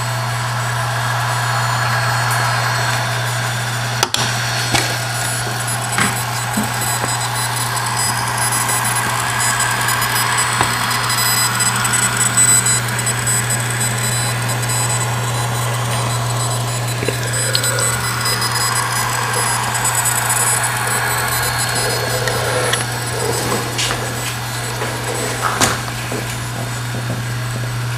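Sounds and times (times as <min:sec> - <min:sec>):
high-pitched whining tones: 0:00.0 - 0:27.9
laptop humming: 0:00.0 - 0:27.9.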